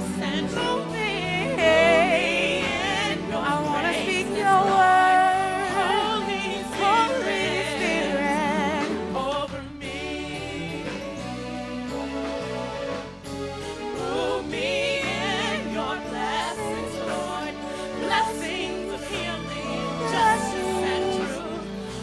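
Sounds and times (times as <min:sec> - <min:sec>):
women singing gospel: 0:00.0 - 0:11.3, 0:13.9 - 0:22.0.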